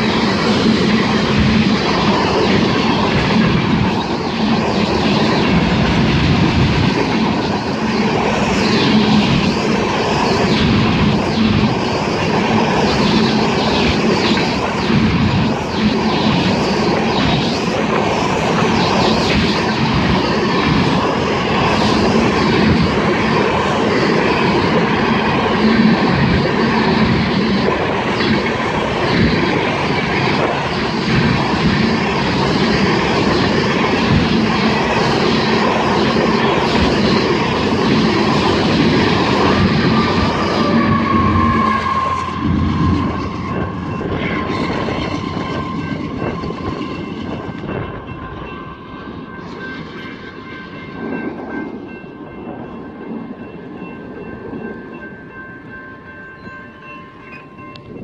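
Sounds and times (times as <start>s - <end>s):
freight train passing: 0.0s - 58.0s
locomotive passing: 0.0s - 58.0s
steel wheels clacking on rails: 0.0s - 58.0s.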